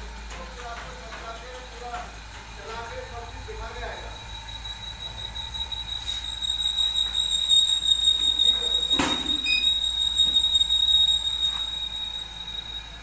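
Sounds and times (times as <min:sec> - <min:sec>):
heat press machine whine and hiss: 0:00.0 - 0:13.0.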